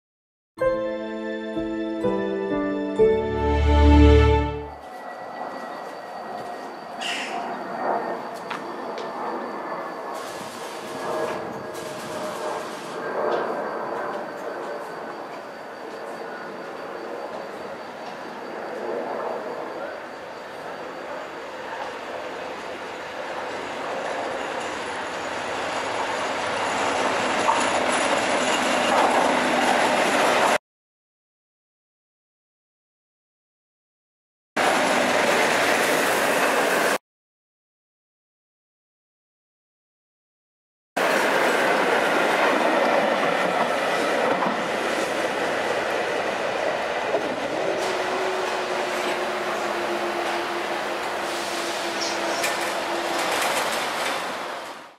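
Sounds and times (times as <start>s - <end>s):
train rumble and rail noise: 0.8s - 30.6s, 34.6s - 37.0s, 41.0s - 54.9s.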